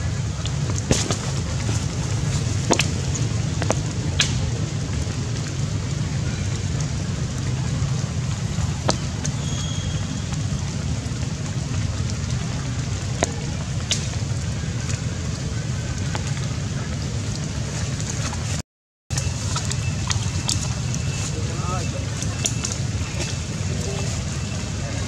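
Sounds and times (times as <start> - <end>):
sharp drips: 0.0 - 25.0
steady rain: 0.0 - 25.0.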